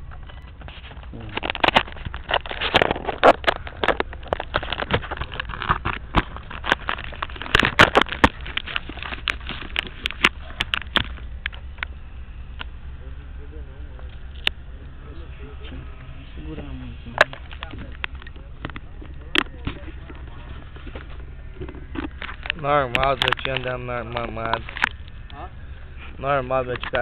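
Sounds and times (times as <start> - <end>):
handling clicks and crackles: 0.0 - 12.8, 13.8 - 27.0
low steady rumble: 0.0 - 27.0.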